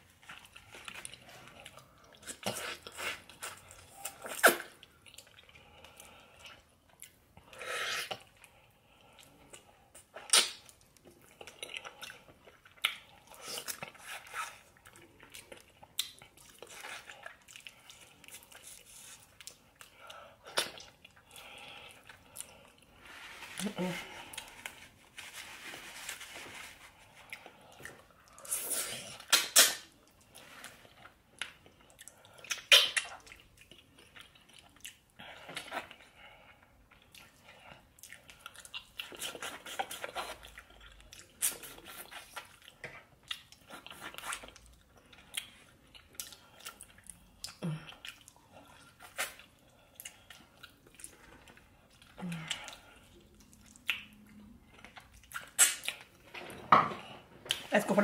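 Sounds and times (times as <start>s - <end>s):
person chewing and lip smacking: 0.2s - 23.0s, 27.1s - 56.4s, 57.4s - 57.7s.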